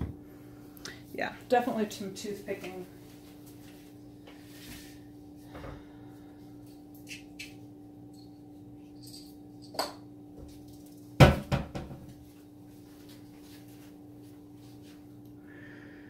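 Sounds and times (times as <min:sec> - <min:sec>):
steady low hum: 0:00.0 - 0:11.3, 0:12.0 - 0:16.0.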